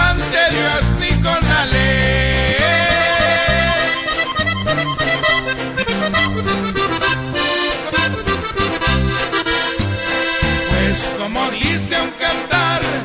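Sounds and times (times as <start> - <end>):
bass line: 0.0 - 13.0
accordion melodic runs: 0.1 - 13.0.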